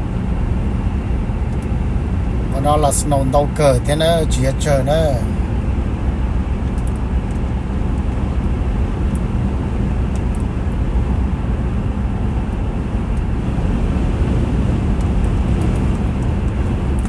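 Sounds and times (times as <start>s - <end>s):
car road noise inside cabin: 0.0s - 17.0s.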